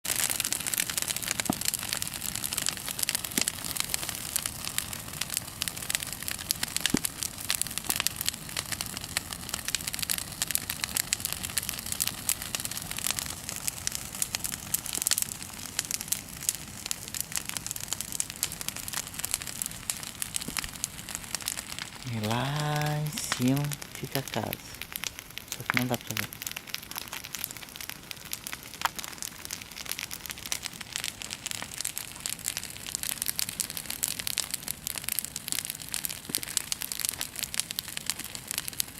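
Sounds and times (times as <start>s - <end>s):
bonfire crackling and popping: 0.0s - 38.9s
steady fire hiss: 0.1s - 38.9s.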